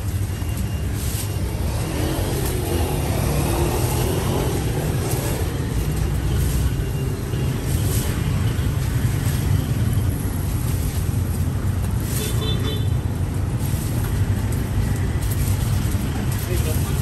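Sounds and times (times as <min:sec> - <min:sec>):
passing vehicle engines: 0:00.0 - 0:17.0
street noise: 0:00.0 - 0:17.0.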